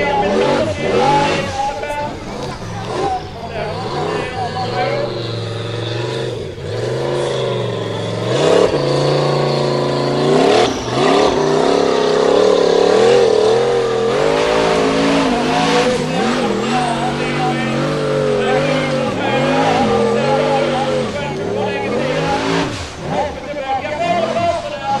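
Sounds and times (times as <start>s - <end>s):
buggy engine revving hard: 0.0s - 25.0s.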